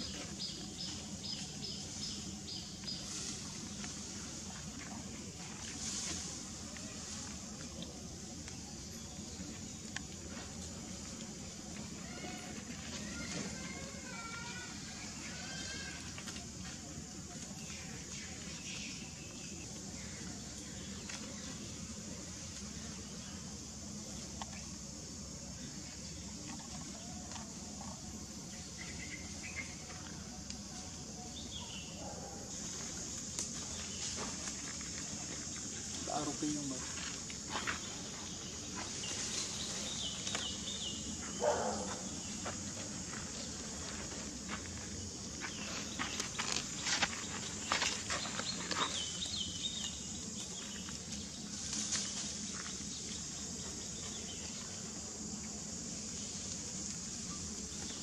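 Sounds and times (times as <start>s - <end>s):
high insect drone: 0.0s - 58.0s
steady hiss: 0.0s - 58.0s.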